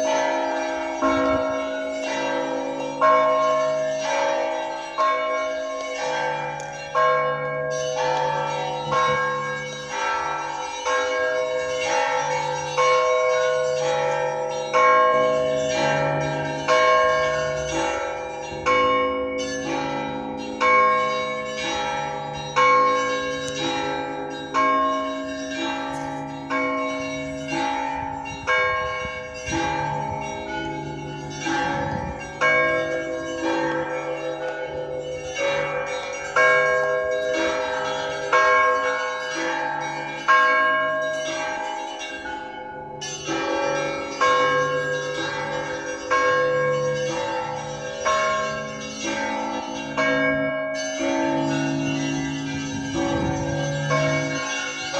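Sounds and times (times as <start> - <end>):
church bells ringing: 0.0 - 54.9.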